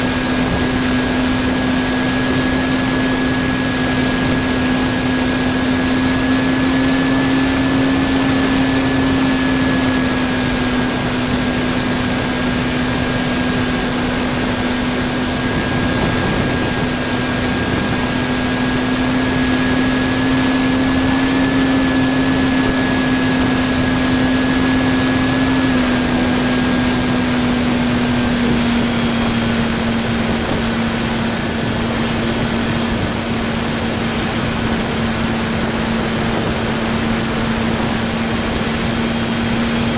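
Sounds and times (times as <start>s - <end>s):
electric motor and propeller whine: 0.0s - 39.9s
wind rush: 0.0s - 39.9s.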